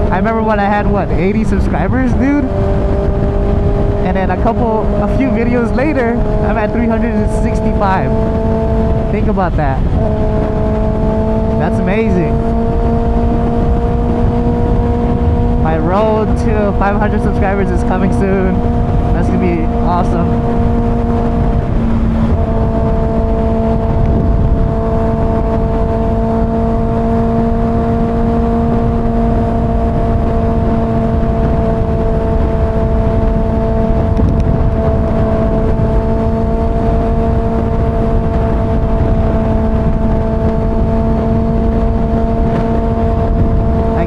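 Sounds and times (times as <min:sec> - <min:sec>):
motorcycle engine cruising: 0:00.0 - 0:44.0
wind noise on microphone: 0:00.0 - 0:44.0.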